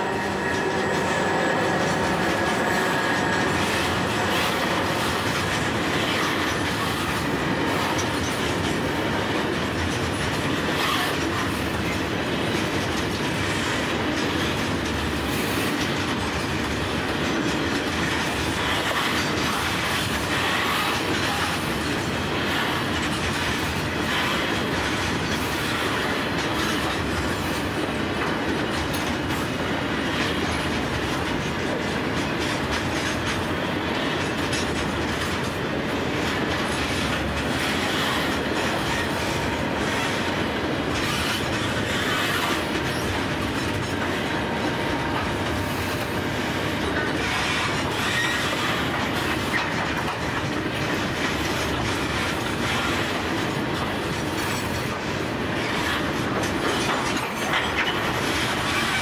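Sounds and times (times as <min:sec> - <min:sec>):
train wagons rolling on rails: 0:00.0 - 0:59.0.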